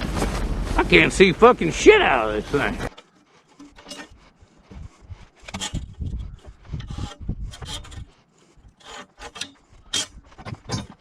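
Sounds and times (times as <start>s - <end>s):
items rubbing and scraping: 2.0s - 11.0s.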